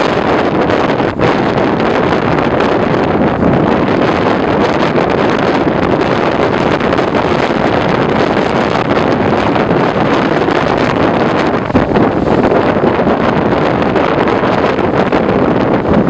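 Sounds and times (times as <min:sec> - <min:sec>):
surf breaking against rocks: 0:00.0 - 0:16.0
wind buffeting microphone: 0:00.0 - 0:16.0.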